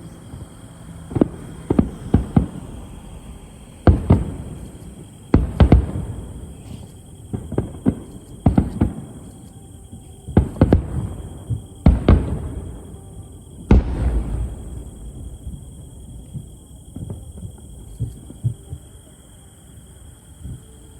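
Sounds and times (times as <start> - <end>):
fireworks booming with rumble: 0.0 - 19.1.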